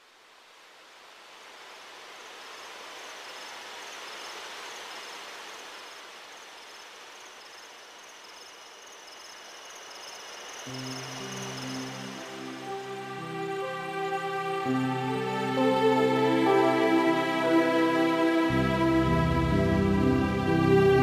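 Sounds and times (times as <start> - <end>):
high cricket-like chirping: 1.0 - 21.0.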